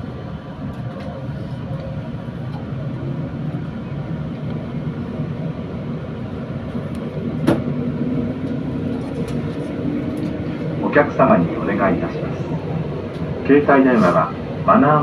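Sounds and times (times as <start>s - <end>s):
wheels rumbling on rails: 0.0s - 14.8s.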